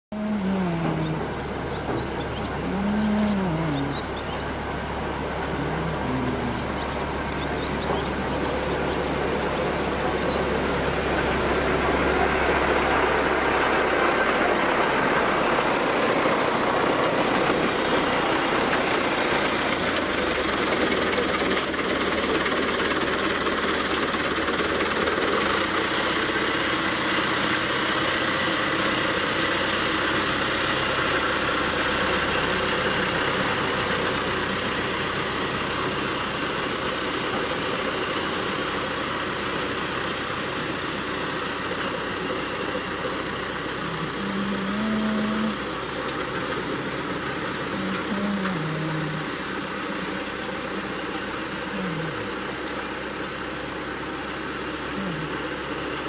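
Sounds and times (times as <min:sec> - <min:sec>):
motor engine running: 0:00.0 - 0:56.0.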